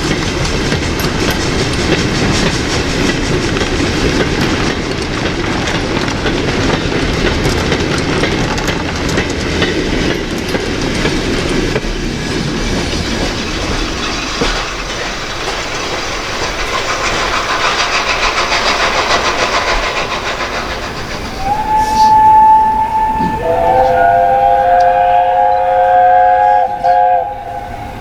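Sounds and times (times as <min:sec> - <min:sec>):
train wheels clattering: 0:00.0 - 0:28.0.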